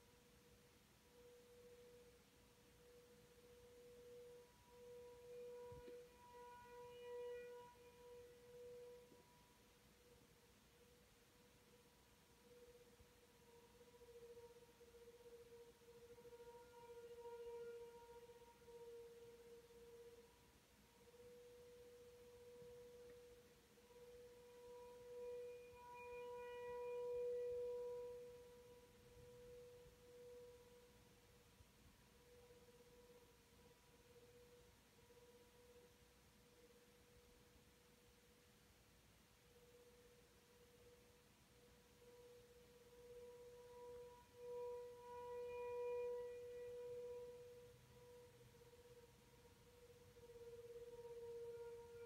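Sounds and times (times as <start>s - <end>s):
distant warning siren steady tone: 0.2s - 37.3s, 39.7s - 52.0s.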